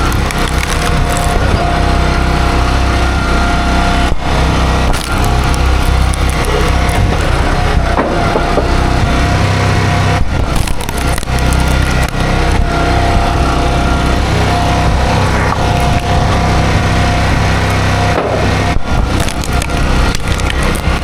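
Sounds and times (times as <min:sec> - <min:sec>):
hydraulic whine: 0:00.0 - 0:21.0
log splitter engine running: 0:00.0 - 0:21.0.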